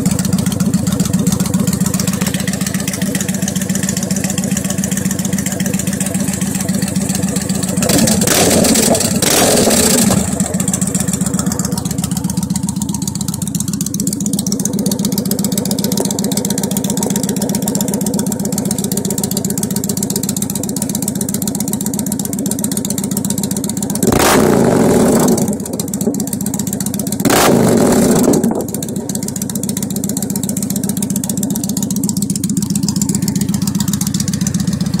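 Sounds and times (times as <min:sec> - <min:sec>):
motorcycle idling and revving: 0:00.0 - 0:35.0.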